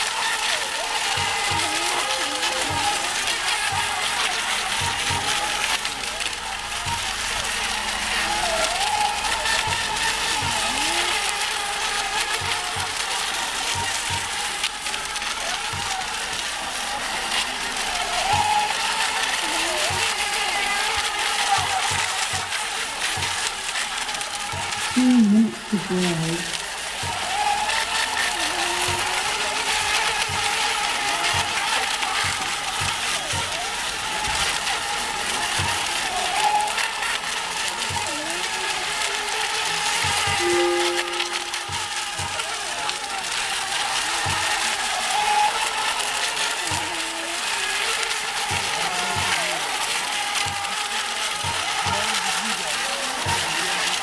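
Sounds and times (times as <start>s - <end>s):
hiss of spray and wind: 0.0s - 54.0s
toy boat motors whining: 0.0s - 54.0s.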